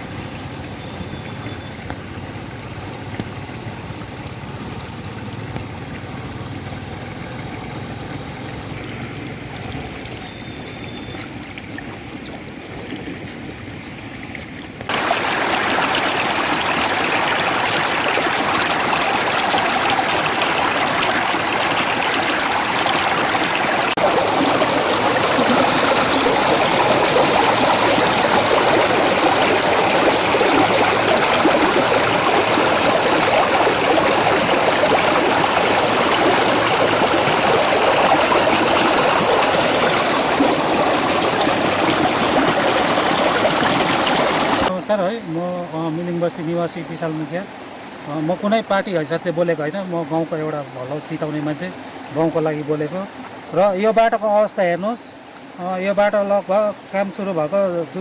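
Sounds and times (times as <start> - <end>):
water rushing: 11.2 - 58.0.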